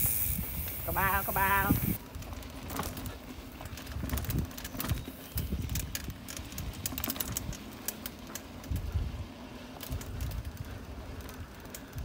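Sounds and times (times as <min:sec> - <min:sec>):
bike rolling over dirt trail: 0:00.0 - 0:12.0.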